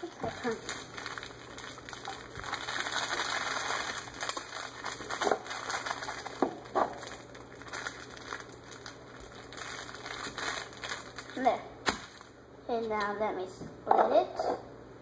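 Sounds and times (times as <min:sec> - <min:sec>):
snack package rustling: 0:00.0 - 0:12.4.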